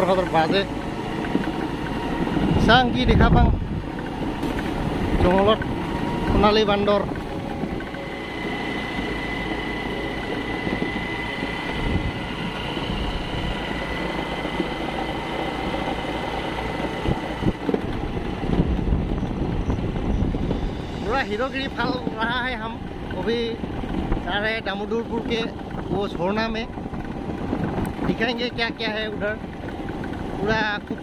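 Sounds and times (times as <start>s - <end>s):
scooter engine cruising: 0.0s - 31.0s
wind rushing over microphone: 0.0s - 31.0s.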